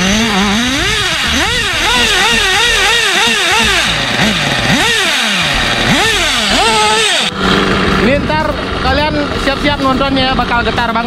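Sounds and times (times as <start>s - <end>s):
small nitro engine revving: 0.0s - 9.8s.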